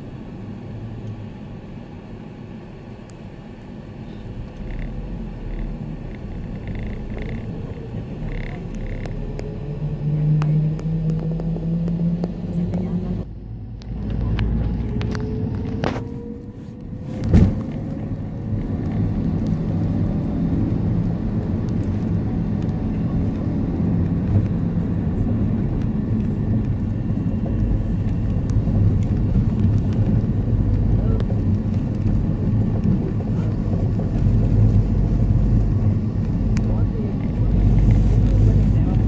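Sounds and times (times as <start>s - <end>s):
engine and road noise in vehicle: 0.0s - 39.0s.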